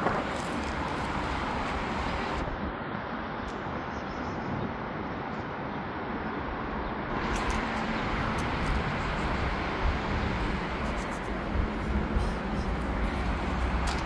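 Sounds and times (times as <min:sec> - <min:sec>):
distant traffic hum: 0:00.0 - 0:14.0.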